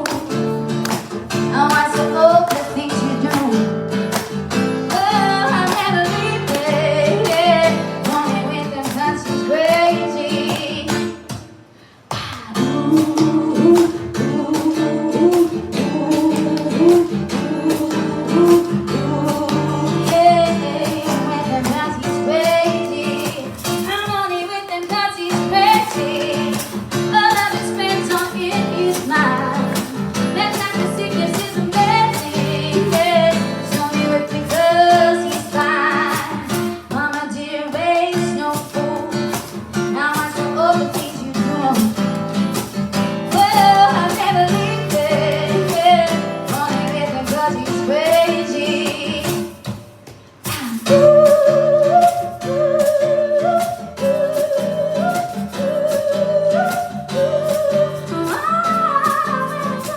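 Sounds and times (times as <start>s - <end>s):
strummed acoustic guitar: 0.0s - 59.9s
woman singing: 0.0s - 59.9s.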